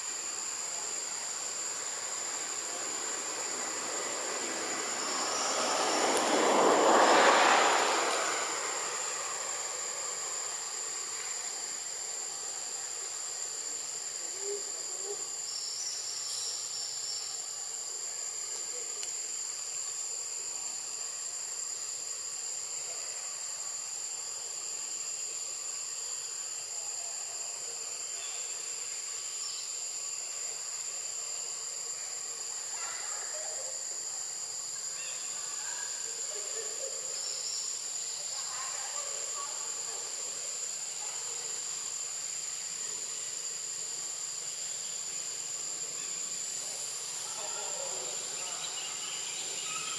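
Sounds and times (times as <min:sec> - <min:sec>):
high-pitched insect drone: 0:00.0 - 0:49.9
lower insect chorus: 0:00.0 - 0:49.9.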